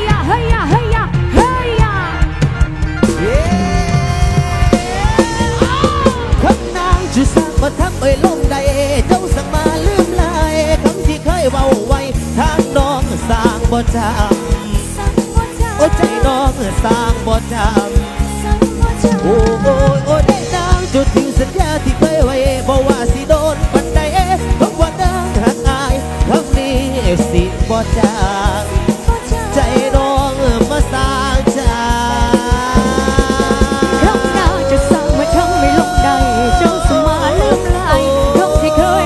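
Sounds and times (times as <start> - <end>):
drum kit beat: 0.0 - 39.0
ornamented melody line: 0.3 - 39.0.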